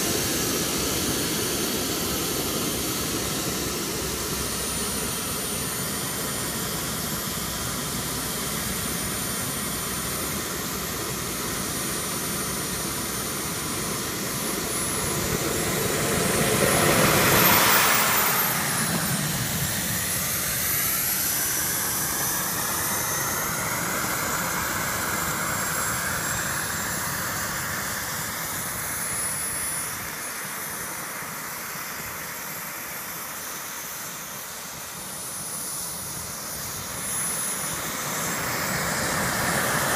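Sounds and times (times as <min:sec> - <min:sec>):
model turbine engine whine: 0:00.0 - 0:39.9.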